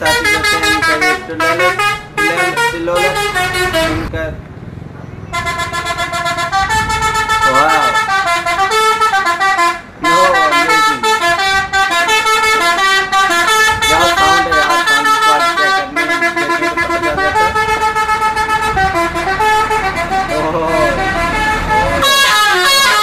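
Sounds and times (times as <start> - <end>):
multi-tone musical bus horn: 0.0 - 4.2, 5.2 - 23.0.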